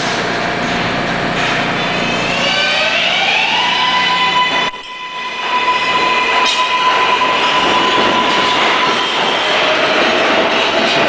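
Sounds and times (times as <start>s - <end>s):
subway train wheel and rail noise: 0.0s - 11.0s
high squeal: 1.8s - 11.0s.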